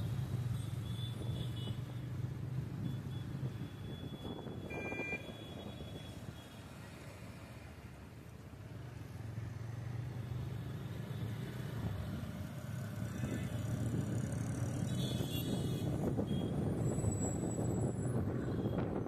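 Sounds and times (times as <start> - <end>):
road traffic noise: 0.0 - 19.0
vehicle engine hum: 0.0 - 19.0.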